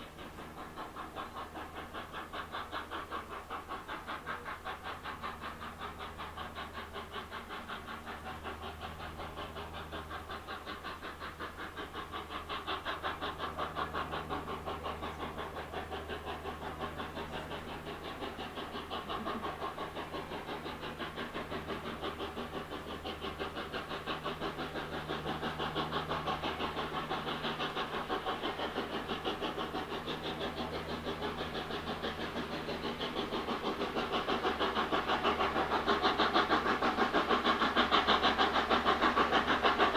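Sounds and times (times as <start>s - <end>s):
locomotive running: 0.0s - 39.9s.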